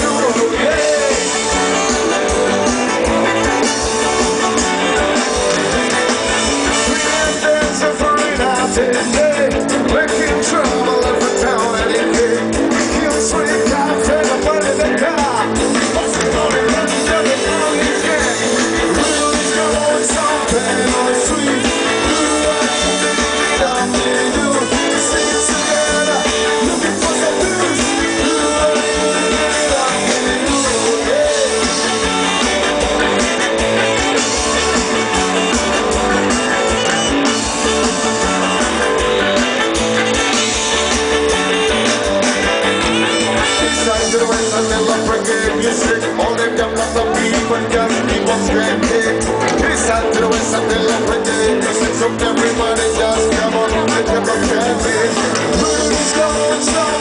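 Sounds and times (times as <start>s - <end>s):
electric guitar: 0.0s - 57.0s
live band playing reggae: 0.0s - 57.0s
pulsing bass line: 0.0s - 57.0s.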